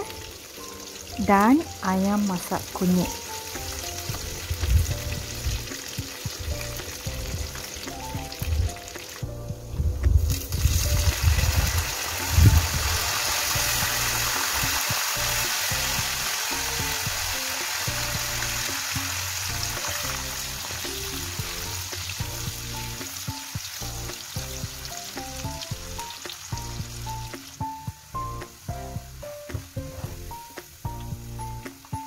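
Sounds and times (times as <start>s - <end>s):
background music: 0.0s - 32.0s
oil sizzling in a wok: 0.0s - 32.0s.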